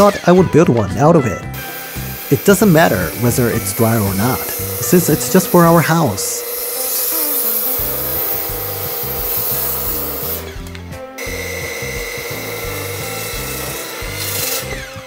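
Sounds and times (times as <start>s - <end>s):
circular saw cutting wood: 1.2s - 15.0s.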